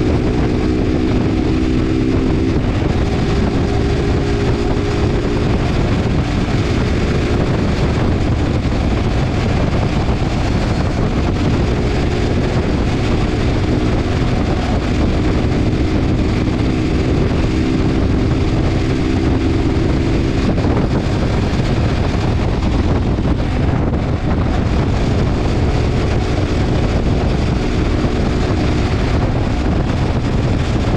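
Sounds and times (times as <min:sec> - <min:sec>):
motorcycle engine: 0:00.0 - 0:30.9
wind on microphone: 0:00.0 - 0:30.9.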